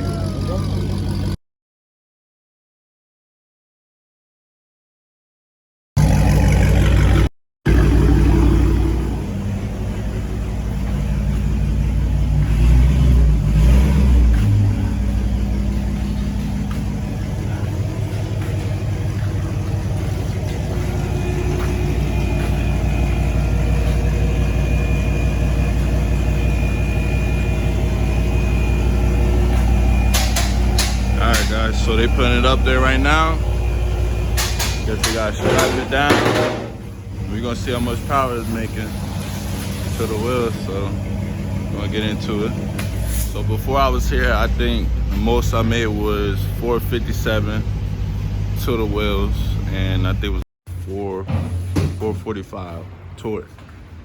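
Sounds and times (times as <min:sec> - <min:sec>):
car exhaust rumble: 0:00.0 - 0:01.4, 0:06.0 - 0:53.8.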